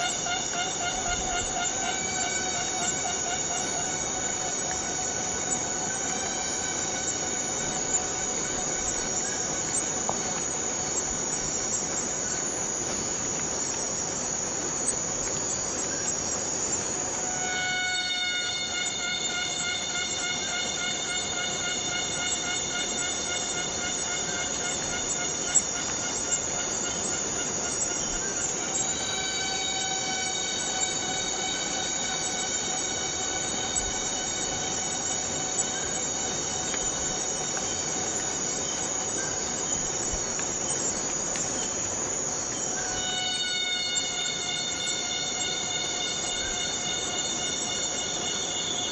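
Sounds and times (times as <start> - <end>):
cicadas buzzing: 0.0 - 48.9.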